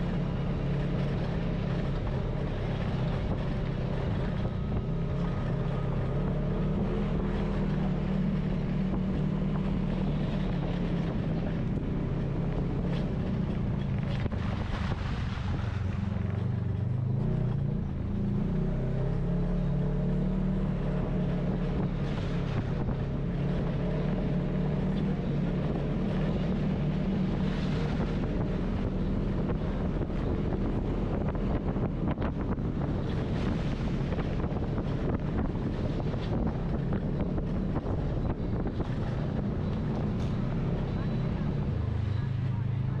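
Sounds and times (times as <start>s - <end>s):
wind buffeting microphone: 0.0s - 19.2s, 20.3s - 43.0s
vehicle engine running: 0.0s - 43.0s.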